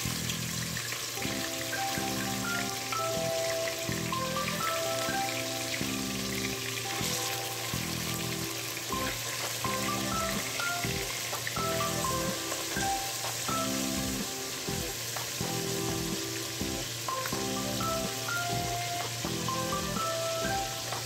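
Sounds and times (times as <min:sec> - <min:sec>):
chicken frying in hot oil: 0:00.0 - 0:21.0
plucked melody background music: 0:00.5 - 0:21.0.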